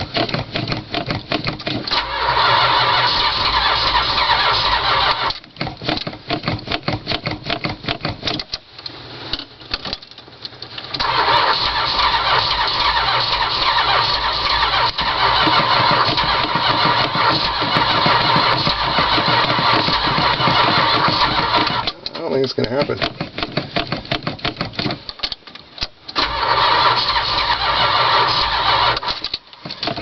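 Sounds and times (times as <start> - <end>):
engine starter cranking: 0.0 - 8.7, 9.3 - 30.0.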